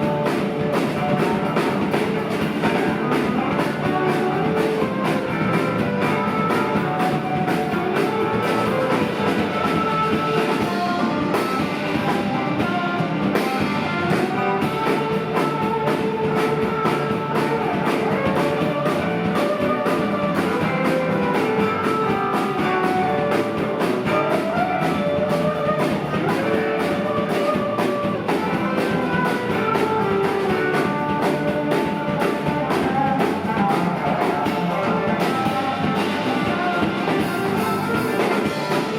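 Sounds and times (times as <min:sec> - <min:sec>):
bass guitar: 0:00.0 - 0:38.9
drum kit beat: 0:00.0 - 0:38.9
lead guitar: 0:00.0 - 0:38.9.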